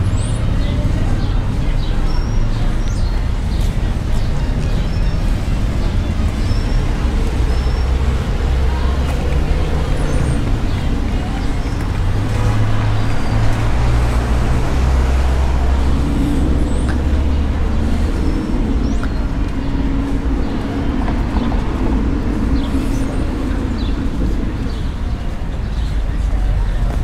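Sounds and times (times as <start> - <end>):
street traffic: 0.0 - 27.0
vehicle engine humming: 0.0 - 27.0.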